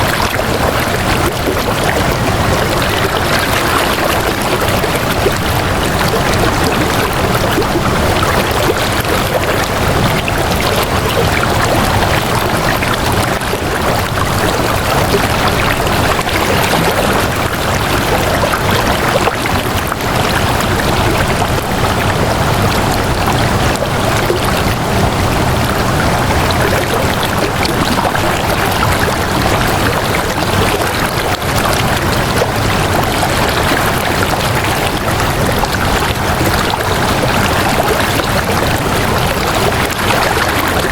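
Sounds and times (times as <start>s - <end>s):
water rushing steadily: 0.0s - 40.9s.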